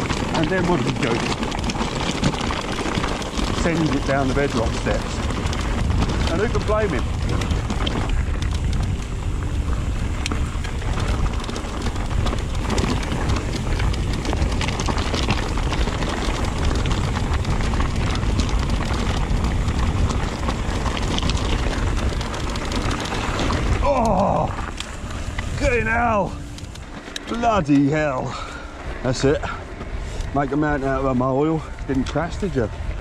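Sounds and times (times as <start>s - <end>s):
bike rattling: 0.0s - 33.0s
bike tyres rolling over gravel: 0.0s - 33.0s
stones crunching and pinging: 0.0s - 33.0s
wind rumble on microphone: 0.0s - 33.0s.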